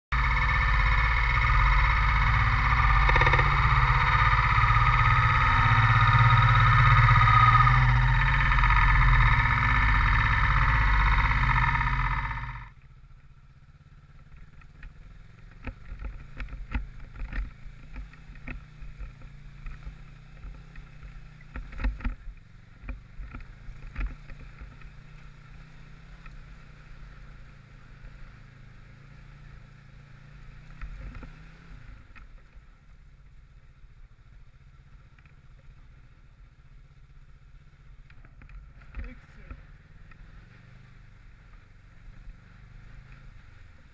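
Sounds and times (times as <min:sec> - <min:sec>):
engine knocks and rattles: 0:00.0 - 0:43.9
motorcycle engine running: 0:00.0 - 0:43.9.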